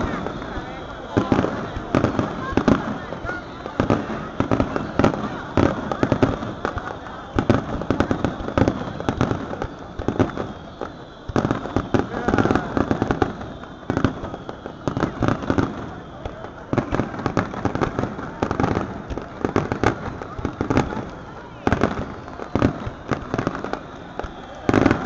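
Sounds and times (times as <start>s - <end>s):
fireworks bursting with bangs: 0.0s - 25.0s.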